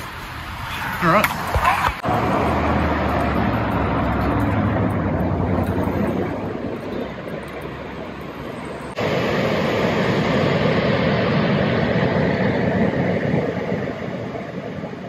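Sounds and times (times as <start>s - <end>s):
bus passing: 0.0s - 15.0s
road traffic: 0.0s - 15.0s.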